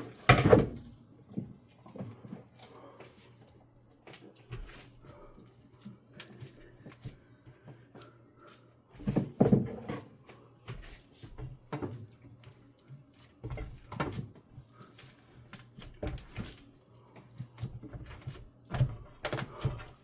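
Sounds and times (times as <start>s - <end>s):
ground meat squishing: 0.9s - 9.1s, 9.9s - 20.0s.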